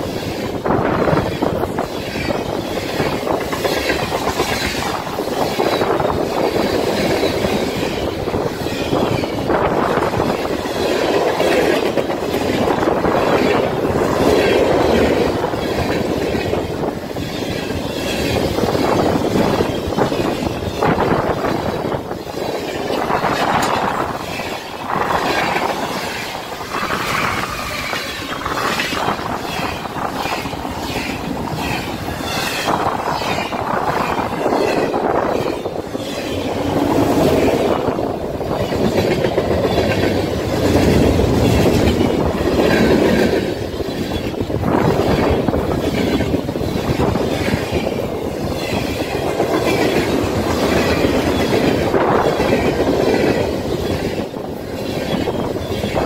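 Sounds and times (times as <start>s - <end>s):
freight train rushing past: 0.0s - 56.0s
train wheels clicking on rail joints: 0.0s - 56.0s.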